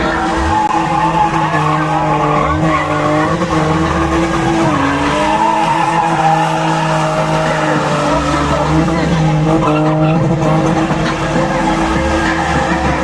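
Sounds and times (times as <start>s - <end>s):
car engine at high revs: 0.0s - 13.0s
tyres squealing on asphalt: 0.0s - 13.0s.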